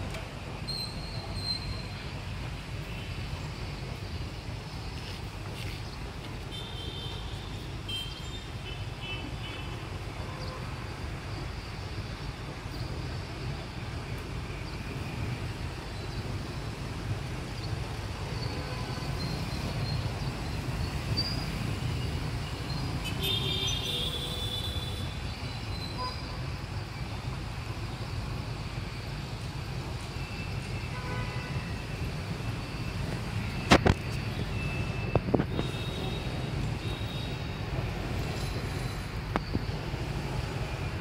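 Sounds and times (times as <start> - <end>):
city road traffic rumble: 0.0 - 41.0.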